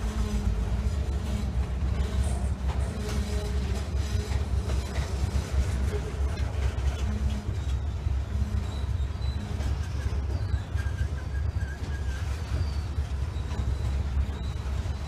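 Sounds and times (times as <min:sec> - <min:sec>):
steel wheels clattering on rails: 0:00.0 - 0:15.0
train low rumble: 0:00.0 - 0:15.0.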